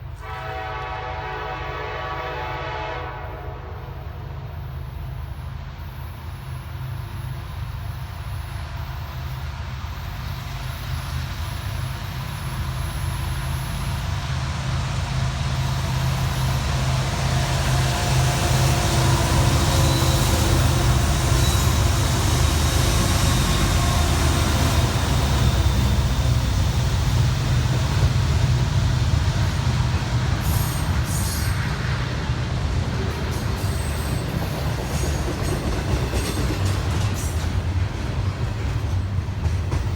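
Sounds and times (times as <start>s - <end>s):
diesel locomotive engine rumbling: 0.0s - 39.9s
train cars rolling past: 4.3s - 39.9s.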